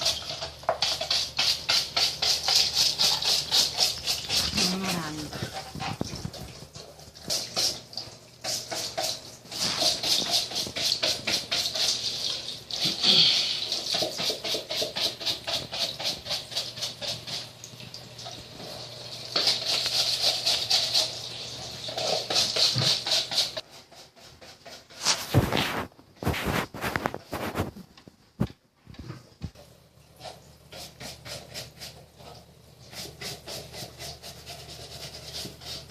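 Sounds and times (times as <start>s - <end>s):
rapid scrubbing on washing machine: 0.0s - 27.9s, 29.0s - 35.9s.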